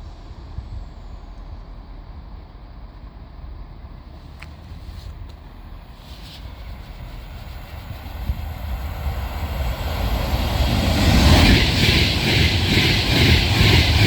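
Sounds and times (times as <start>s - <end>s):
train passing: 0.0s - 14.0s.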